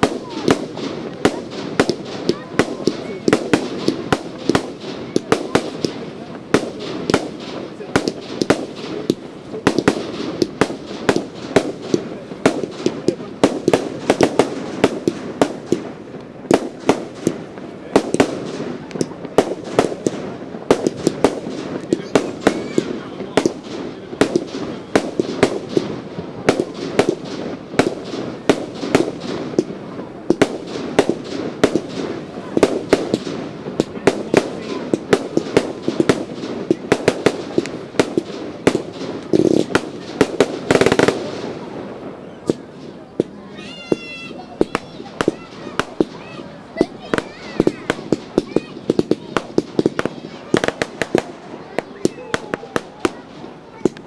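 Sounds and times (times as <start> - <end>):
crackling fireworks rumble: 0.0 - 54.0
fireworks bangs: 0.0 - 54.0.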